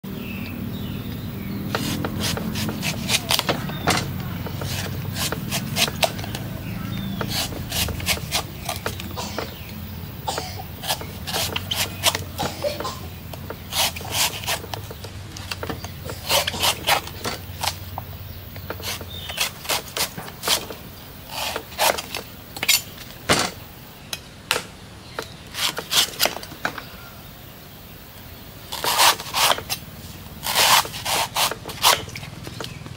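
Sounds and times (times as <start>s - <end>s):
knife cutting coconut husk: 1.2s - 23.7s, 25.2s - 27.1s, 28.6s - 32.8s.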